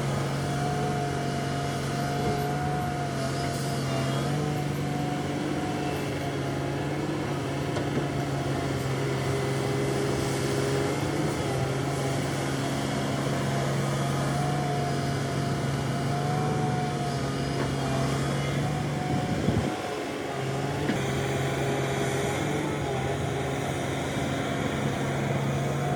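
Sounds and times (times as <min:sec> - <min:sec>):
construction machine motors humming: 0:00.0 - 0:25.9.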